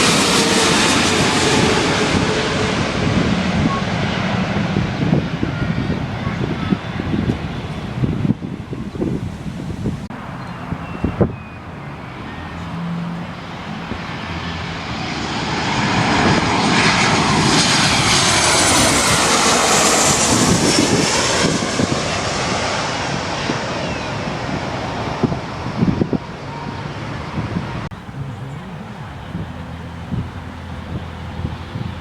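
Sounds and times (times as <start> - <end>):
high engine whine: 0.0 - 8.8, 9.7 - 32.0
jet airliner passing: 0.0 - 32.0.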